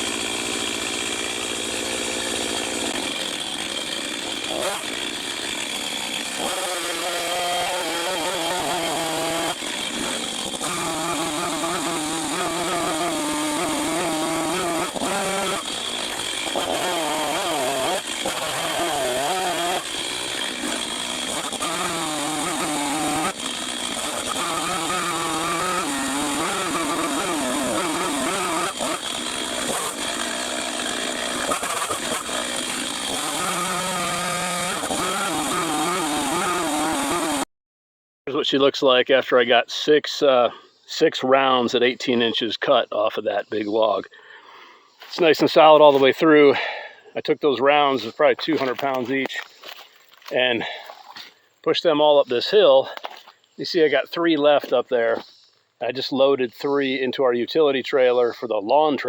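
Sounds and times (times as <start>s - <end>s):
chainsaw cutting log: 0.0s - 37.5s, 44.3s - 47.0s, 47.6s - 51.4s, 52.0s - 55.3s.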